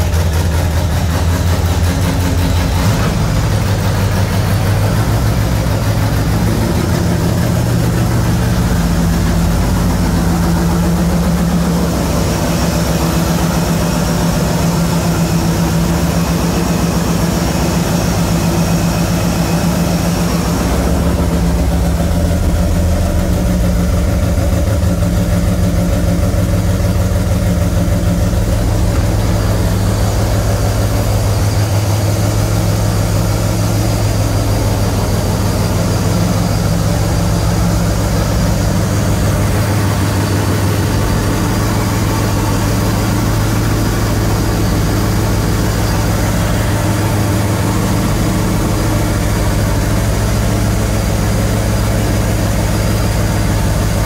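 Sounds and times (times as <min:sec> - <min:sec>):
engine fast idle: 0:00.0 - 0:54.0.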